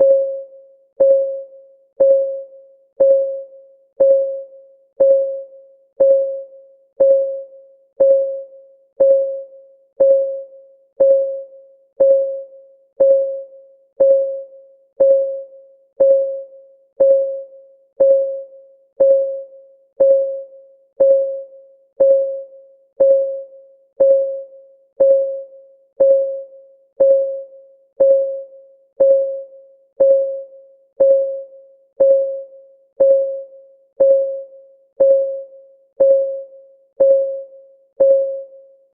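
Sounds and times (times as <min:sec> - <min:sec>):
timer ticking blips: 0:00.0 - 0:38.6.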